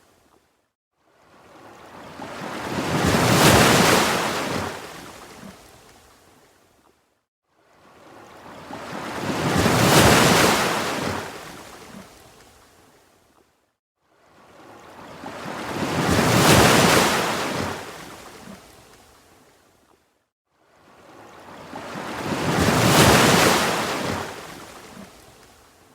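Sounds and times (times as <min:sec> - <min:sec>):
ocean waves breaking on shore: 0:01.0 - 0:06.6, 0:07.5 - 0:13.1, 0:14.0 - 0:19.7, 0:20.6 - 0:25.9.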